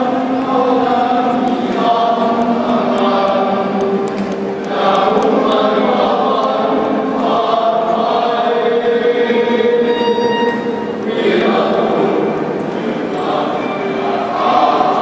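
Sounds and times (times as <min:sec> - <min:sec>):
men's choir singing in harmony: 0:00.0 - 0:15.0.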